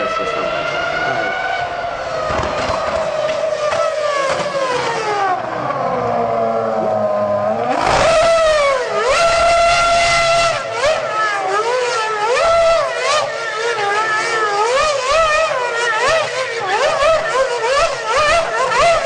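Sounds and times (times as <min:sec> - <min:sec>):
racing car engine revving: 0:00.0 - 0:19.0.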